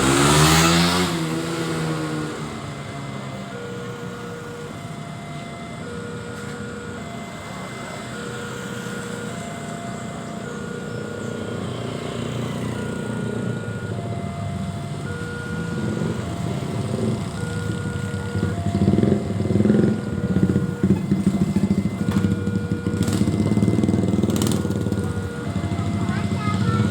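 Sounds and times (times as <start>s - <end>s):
engines rumbling: 0.0s - 26.9s
two-tone crossing alarm chime: 0.0s - 26.9s.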